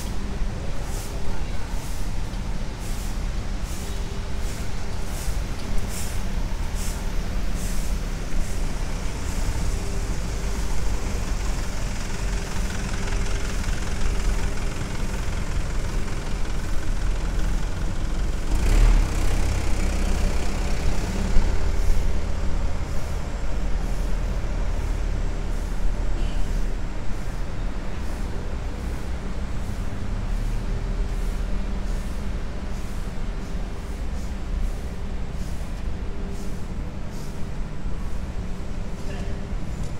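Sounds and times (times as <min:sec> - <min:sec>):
traffic on wet pavement: 0:00.0 - 0:39.9.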